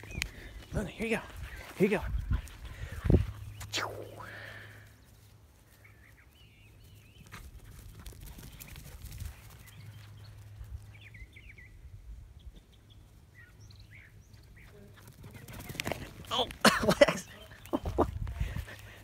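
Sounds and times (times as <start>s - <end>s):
small birds chirping: 0.0s - 16.5s, 17.2s - 19.0s.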